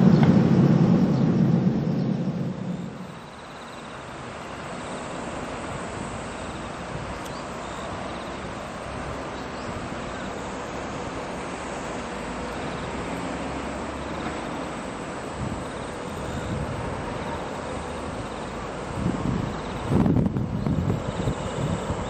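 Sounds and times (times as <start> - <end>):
distant jet airliner rumble: 0.0 - 22.0.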